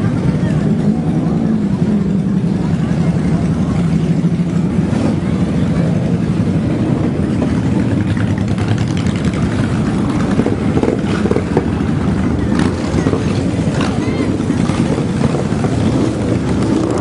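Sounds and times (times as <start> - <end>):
motorcycle engines running loudly: 0.0 - 17.0.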